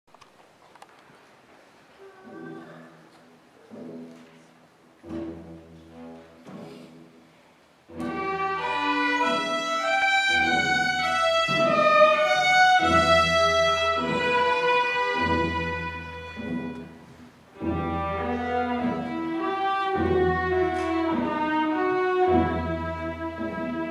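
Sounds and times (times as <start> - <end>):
string orchestra playing: 2.2 - 23.9.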